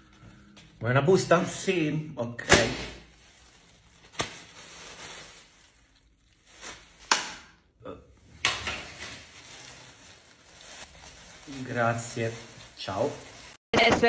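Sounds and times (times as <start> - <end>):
plastic bag rustling: 0.0 - 7.1, 8.2 - 13.6.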